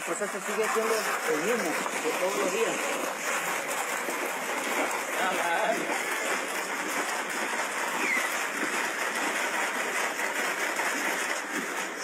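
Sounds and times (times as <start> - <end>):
wooden paddle scraping metal canister: 0.0 - 12.0.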